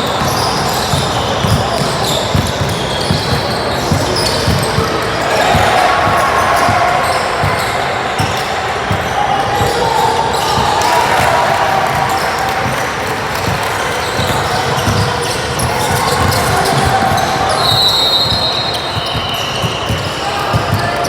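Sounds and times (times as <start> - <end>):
basketball bouncing on gym floor: 0.0 - 21.0
voices of players and spectators: 0.0 - 21.0.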